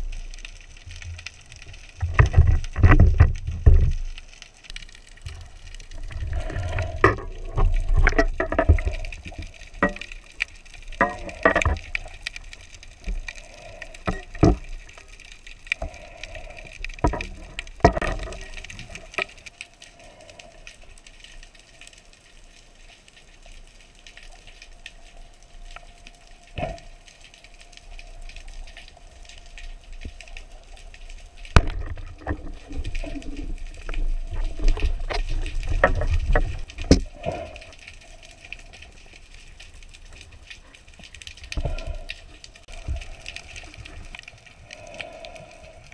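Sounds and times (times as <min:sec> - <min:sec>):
water rushing underwater: 0:00.0 - 0:21.0, 0:25.8 - 0:45.9.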